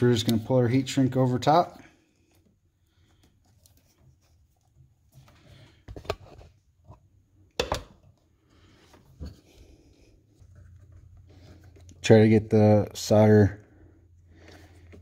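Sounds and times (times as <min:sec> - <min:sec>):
rustling of wires: 0:00.0 - 0:07.4, 0:08.0 - 0:13.5.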